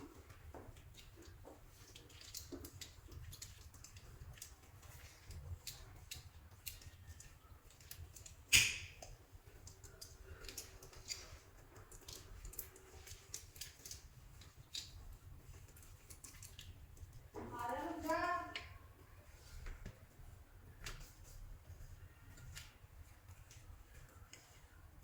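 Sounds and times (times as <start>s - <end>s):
clay clicks and sticky taps: 0.0s - 25.0s.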